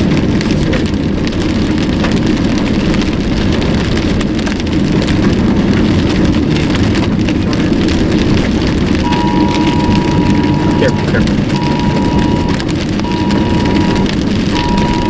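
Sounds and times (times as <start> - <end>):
car engine and tyre noise: 0.0 - 15.0
rain pattering on a car roof: 0.0 - 15.0.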